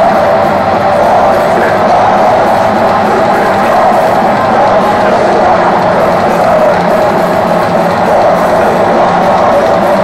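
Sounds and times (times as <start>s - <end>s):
metal band playing live: 0.0s - 10.0s.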